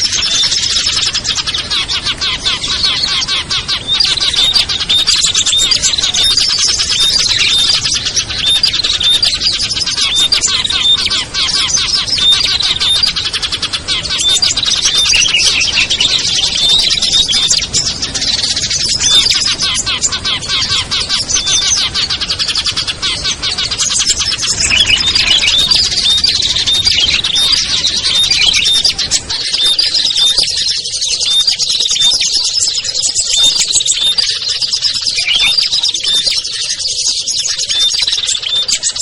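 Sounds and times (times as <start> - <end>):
songbirds chirping in chorus: 0.0 - 39.0.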